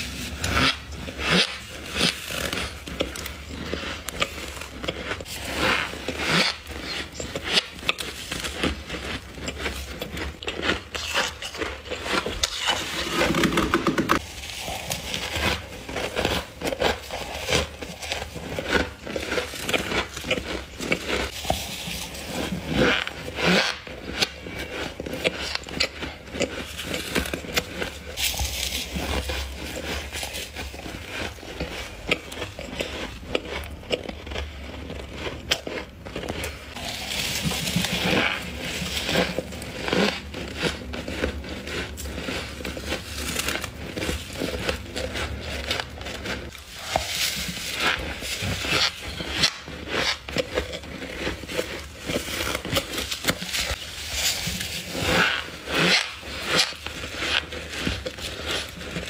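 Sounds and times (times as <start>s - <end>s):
crunchy chewing of frost: 0.0s - 59.0s.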